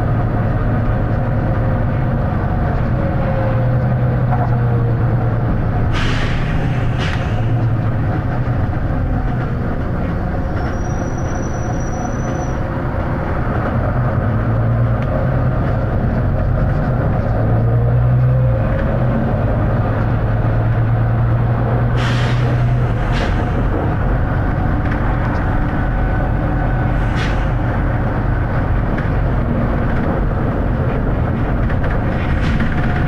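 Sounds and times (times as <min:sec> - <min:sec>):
bus diesel engine drone: 0:00.0 - 0:33.0.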